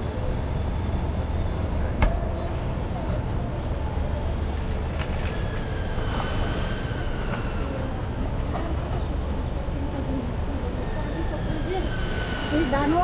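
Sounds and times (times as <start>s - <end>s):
heavy traffic rumble: 0.0s - 13.0s.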